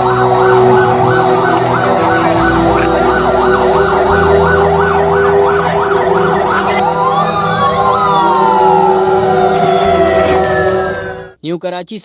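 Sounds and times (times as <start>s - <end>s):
siren fast yelp: 0.0s - 11.4s
sirens gliding in pitch: 0.0s - 11.4s.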